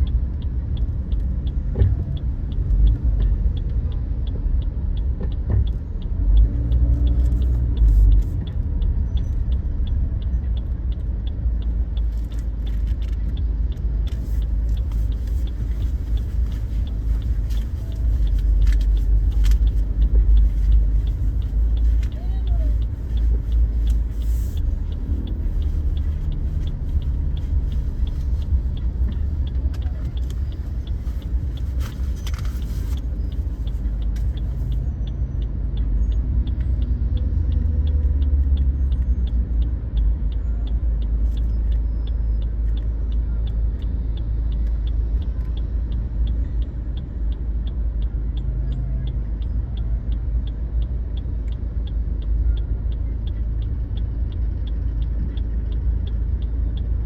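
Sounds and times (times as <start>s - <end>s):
car rumble from inside cabin: 0.0s - 57.0s
light even ticking: 0.0s - 57.0s.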